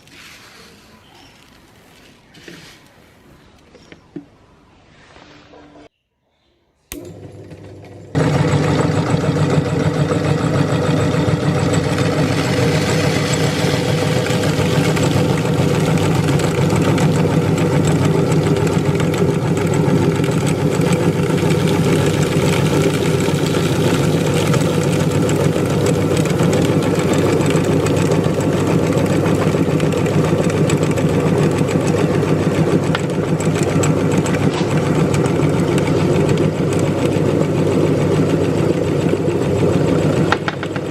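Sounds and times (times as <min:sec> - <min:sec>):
electric meat grinder motor: 0:06.9 - 0:40.9.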